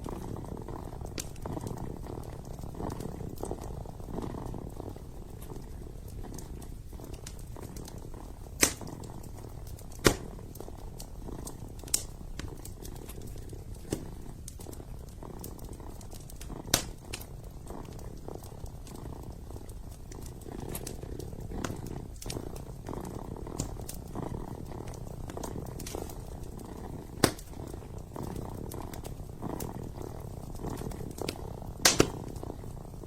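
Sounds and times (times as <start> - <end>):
kitten purring: 0.0 - 33.0
wood fire popping: 0.0 - 33.0.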